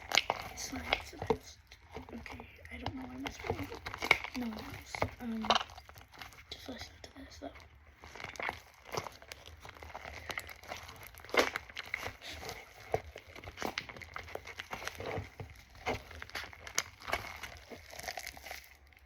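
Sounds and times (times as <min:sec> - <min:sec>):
slime crackling and popping: 0:00.0 - 0:19.0.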